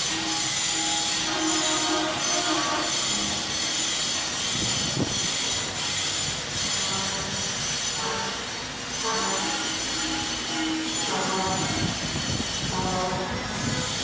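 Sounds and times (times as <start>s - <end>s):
machine spindle cutting stone: 0.0s - 14.0s.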